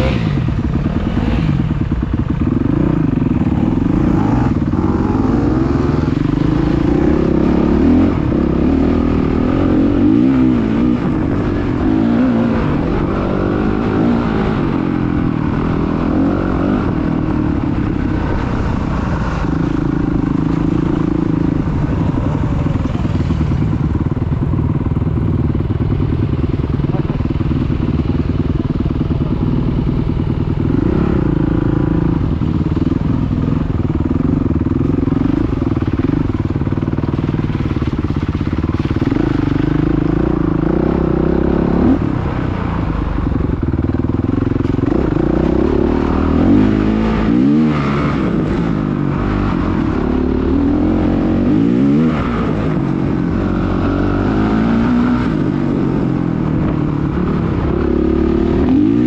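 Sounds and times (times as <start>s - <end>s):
dirt bike engine revving: 0.0s - 24.0s, 26.5s - 42.5s, 44.0s - 59.0s.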